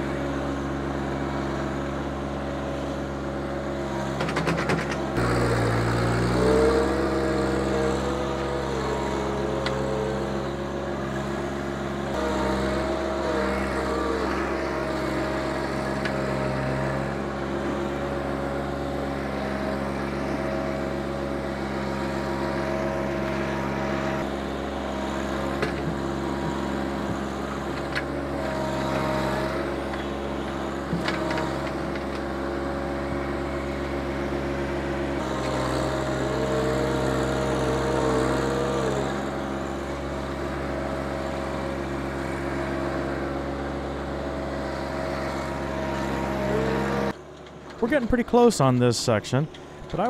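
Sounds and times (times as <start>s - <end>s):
loader scraping and dumping dirt: 0.0s - 50.0s
tractor diesel engine running: 0.0s - 50.0s.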